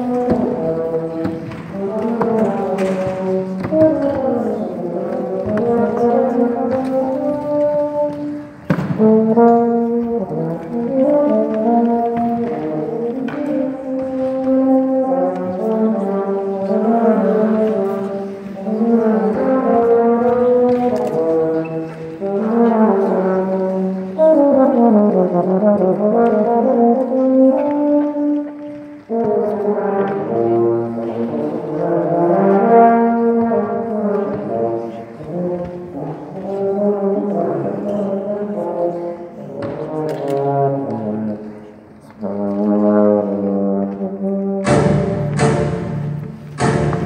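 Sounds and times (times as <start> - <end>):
euphonium melody: 0.0 - 47.0.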